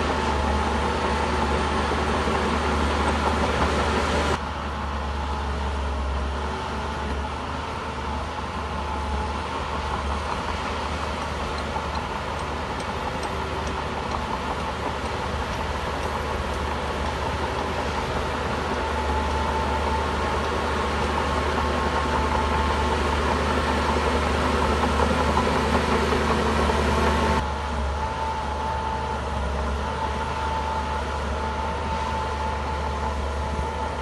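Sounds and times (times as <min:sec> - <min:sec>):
bulldozer diesel engine rumbling: 0:00.0 - 0:34.0.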